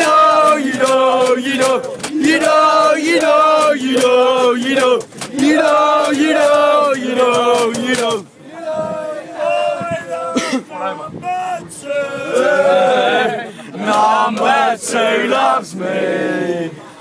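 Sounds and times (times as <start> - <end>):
crowd of men chanting: 0.0 - 17.0.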